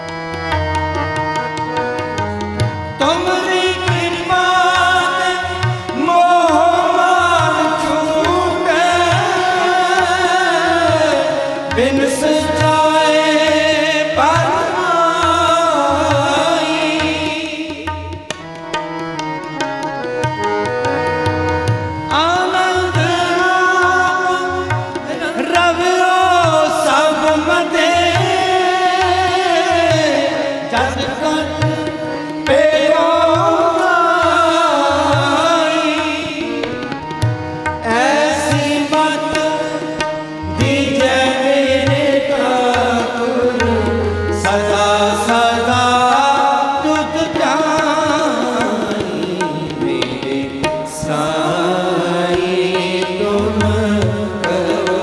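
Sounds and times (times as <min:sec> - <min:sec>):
harmoniums: 0:00.0 - 0:55.0
tabla: 0:00.0 - 0:55.0
voices singing together: 0:03.0 - 0:18.0, 0:21.5 - 0:55.0.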